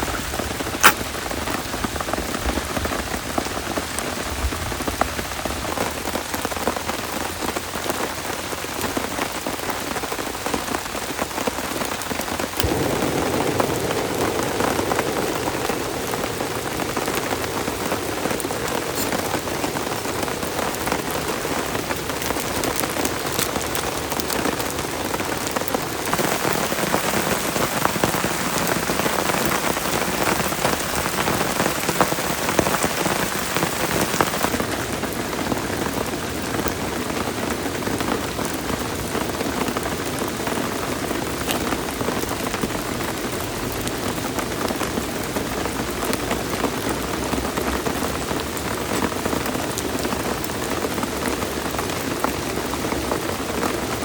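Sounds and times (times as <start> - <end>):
heavy rain beating on surface: 0.0 - 54.0.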